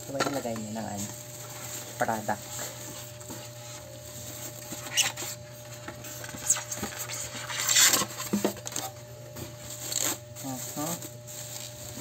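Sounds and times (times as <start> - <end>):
plastic wrapping crinkling: 0.1 - 12.0
styrofoam rubbing: 0.8 - 12.0.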